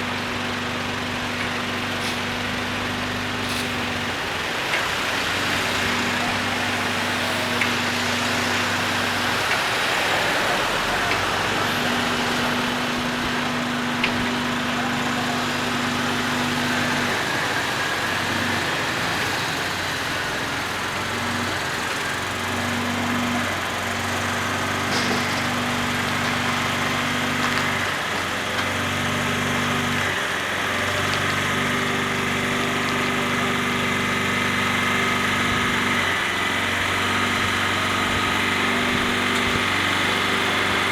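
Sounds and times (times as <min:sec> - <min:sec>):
heavy vehicle engine humming: 0:00.0 - 0:40.9.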